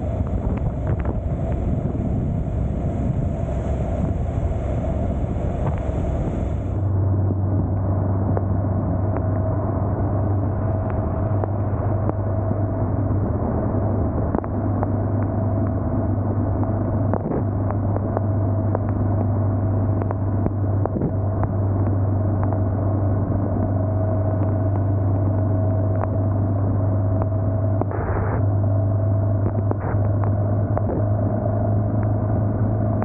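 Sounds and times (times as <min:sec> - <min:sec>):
motorcycle engine drone: 0:00.0 - 0:33.0
road noise: 0:00.0 - 0:33.0.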